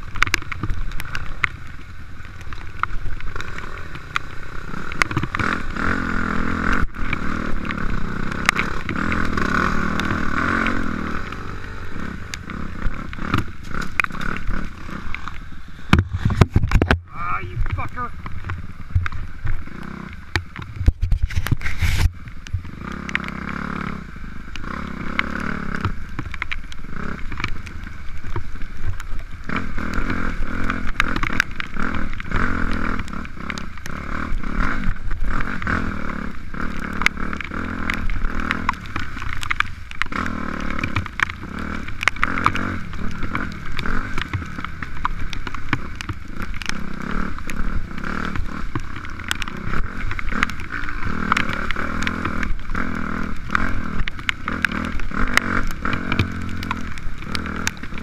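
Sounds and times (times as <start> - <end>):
bike rattling over rough ground: 0.0 - 58.0
dirt bike engine revving: 1.9 - 20.7, 21.7 - 28.5, 29.3 - 58.0.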